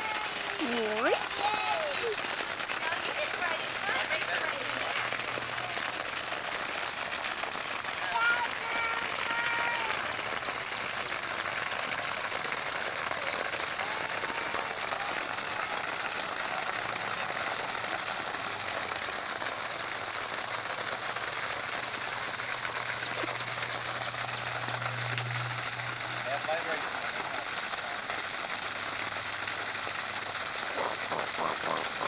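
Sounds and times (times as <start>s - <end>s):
low pump hum: 0.0s - 32.0s
water pouring from hose: 0.0s - 32.0s.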